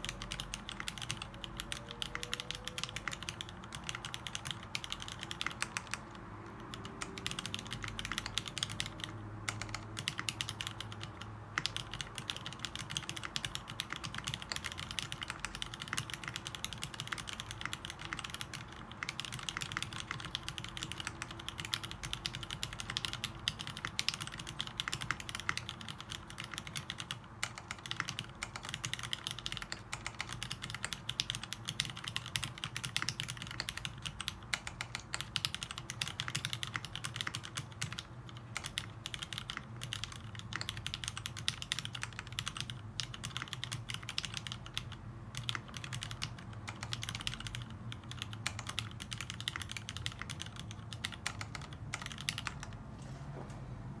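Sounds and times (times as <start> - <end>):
fast typing on mechanical keyboard: 0.0 - 52.8.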